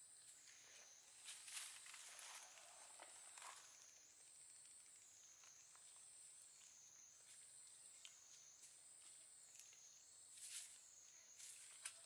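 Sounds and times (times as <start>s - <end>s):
high-pitched insect drone: 0.0s - 11.8s.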